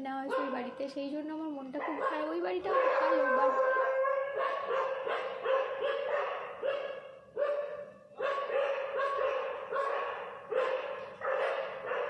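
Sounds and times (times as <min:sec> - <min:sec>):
dog barking: 0:00.2 - 0:00.8, 0:01.8 - 0:12.0.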